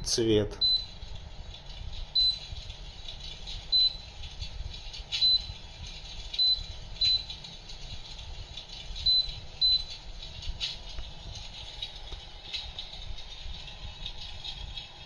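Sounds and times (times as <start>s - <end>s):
simulated wood crackling: 0.0s - 15.0s.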